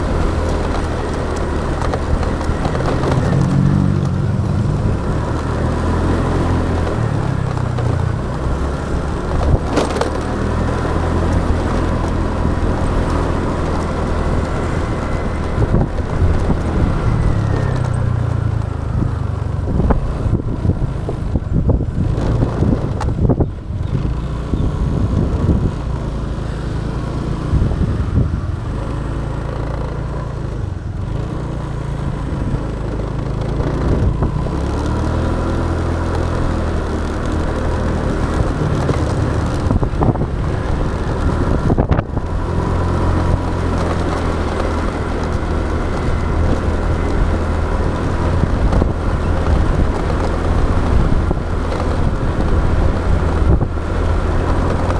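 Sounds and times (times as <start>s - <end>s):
motorbike engine running: 0.0s - 54.9s
road noise: 0.0s - 54.9s.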